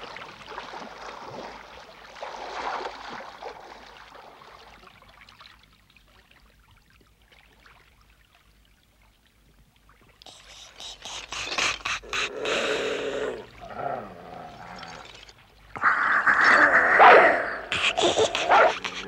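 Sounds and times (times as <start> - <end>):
water trickling and lapping: 0.0 - 19.0.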